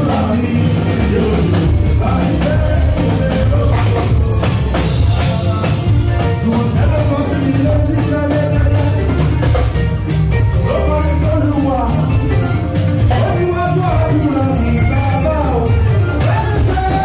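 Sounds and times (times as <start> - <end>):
person singing: 0.0 - 9.8, 10.5 - 17.0
live band playing dance music: 0.0 - 17.0.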